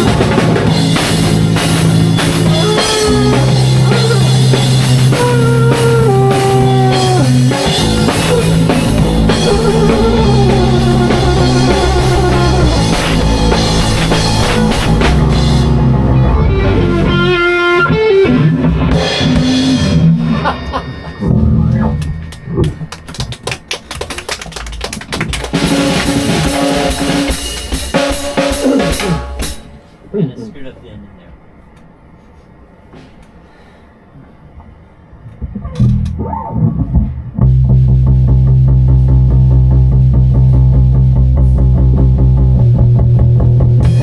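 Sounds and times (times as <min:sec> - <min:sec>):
held bass notes: 0:00.0 - 0:29.8, 0:35.3 - 0:44.0
drum kit: 0:00.0 - 0:30.0, 0:35.4 - 0:44.0
electric guitar bending notes: 0:00.0 - 0:30.1, 0:35.2 - 0:44.0.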